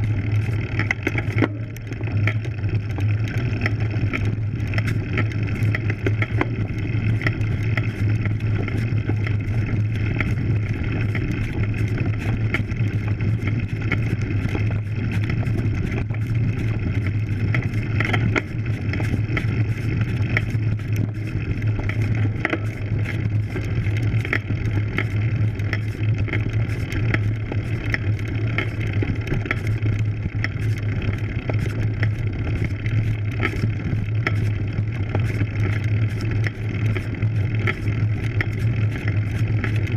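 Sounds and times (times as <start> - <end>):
bike rattles and clicks: 0.0 - 39.9
bike tyres rumbling on dirt: 0.0 - 39.9.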